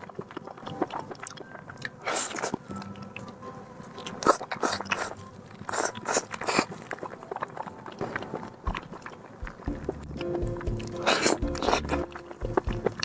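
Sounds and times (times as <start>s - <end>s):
person chewing squid: 0.0s - 13.0s.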